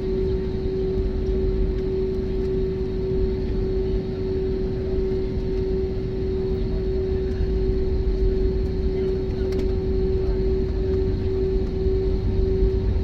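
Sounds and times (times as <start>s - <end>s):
airliner engines and airflow rumble: 0.0s - 13.0s
constant cabin hum: 0.0s - 13.0s.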